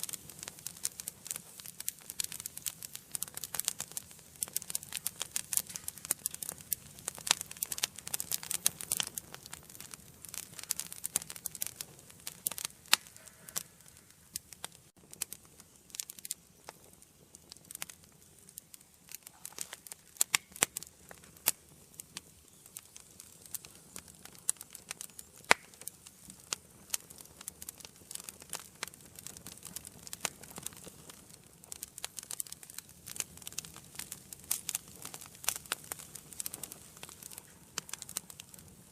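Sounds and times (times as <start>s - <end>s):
faint steady hiss: 0.0s - 38.9s
wood fire crackling and popping: 0.0s - 38.9s.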